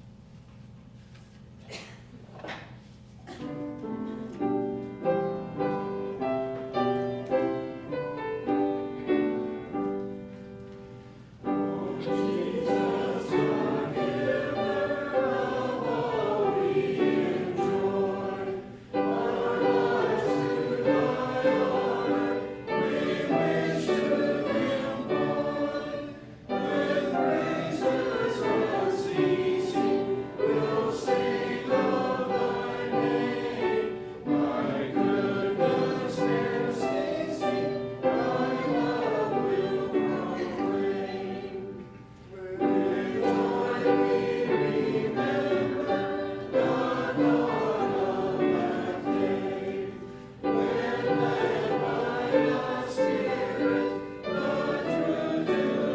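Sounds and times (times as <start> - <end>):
congregation singing a hymn: 2.6 - 55.9
piano playing: 3.6 - 55.9.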